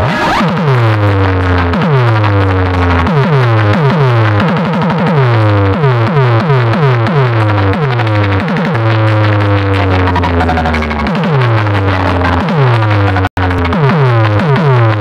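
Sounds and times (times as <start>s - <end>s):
falling synth bass sweeps: 0.0s - 4.5s, 5.1s - 15.0s
bass-heavy electronic dance music: 0.0s - 15.0s.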